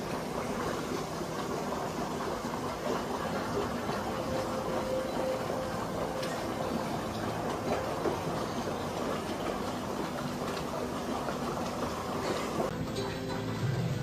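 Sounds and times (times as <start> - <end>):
churning water rushing: 0.0 - 14.0.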